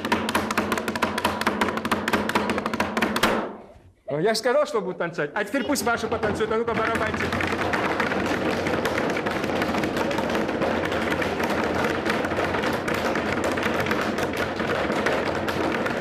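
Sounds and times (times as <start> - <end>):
children drumming fast: 0.0 - 3.5, 5.6 - 16.0.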